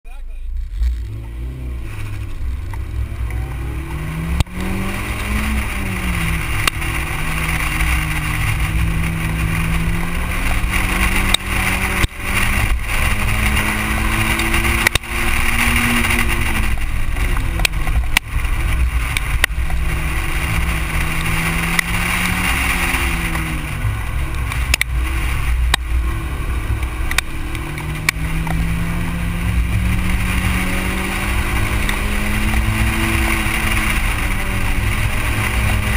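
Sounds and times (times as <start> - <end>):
car engine revving: 0.1 - 35.9
wind noise: 0.5 - 35.9.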